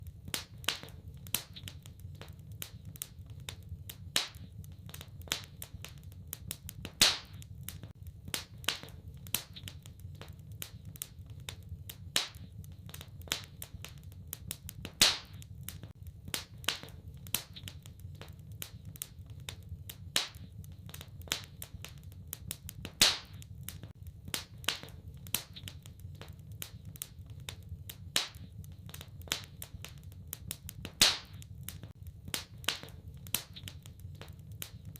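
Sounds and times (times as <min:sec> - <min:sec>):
low fire rumble: 0:00.0 - 0:34.9
wood fire crackling: 0:00.0 - 0:34.9
loud fire pops: 0:00.2 - 0:34.9.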